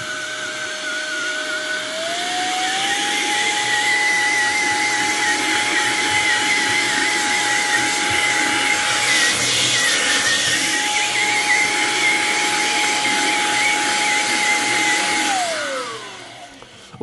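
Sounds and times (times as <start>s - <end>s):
air duster fan whine: 0.0s - 17.0s.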